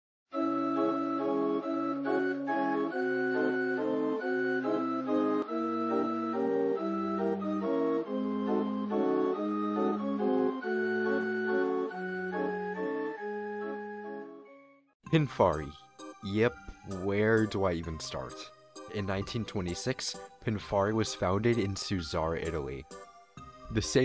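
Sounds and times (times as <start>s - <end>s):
organ chords: 0.3s - 24.0s.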